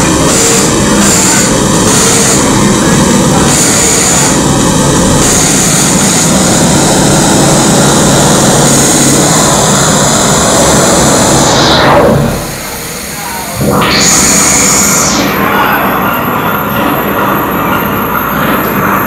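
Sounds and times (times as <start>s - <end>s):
dense wall of noise: 0.0s - 19.0s
steady low drone: 0.0s - 19.0s.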